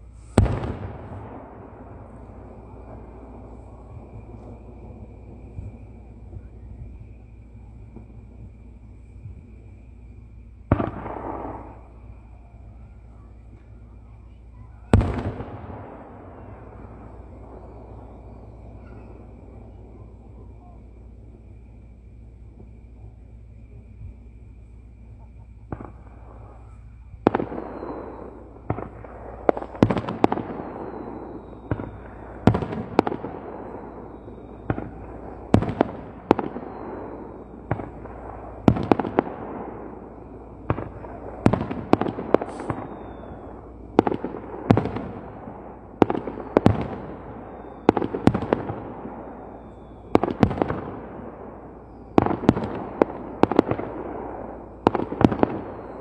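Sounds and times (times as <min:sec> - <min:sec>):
fireworks bangs with echoing rumble: 0:00.0 - 0:56.0.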